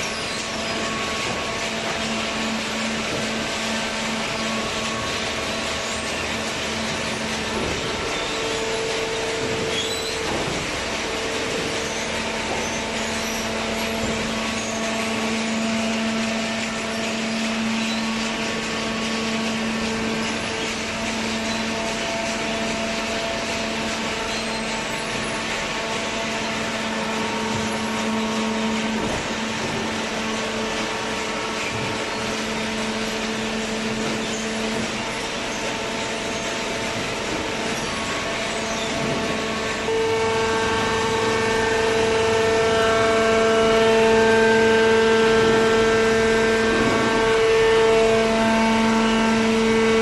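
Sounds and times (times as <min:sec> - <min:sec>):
hydraulic baler motor humming: 0:00.0 - 0:50.0.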